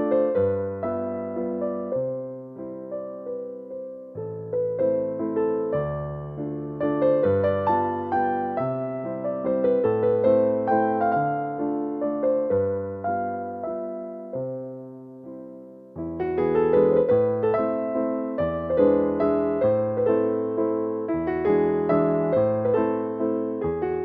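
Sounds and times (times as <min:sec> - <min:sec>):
electric piano melody: 0:00.0 - 0:24.0.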